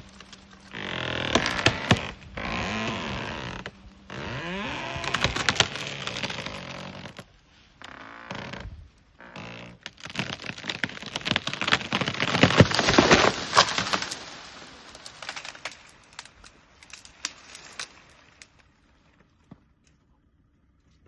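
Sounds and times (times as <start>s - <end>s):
tree cracking and splintering: 0.0s - 18.9s.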